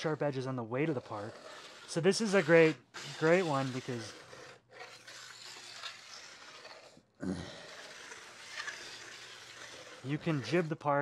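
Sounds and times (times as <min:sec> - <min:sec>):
file rasping along steel edge: 0:00.0 - 0:07.0, 0:07.6 - 0:10.8.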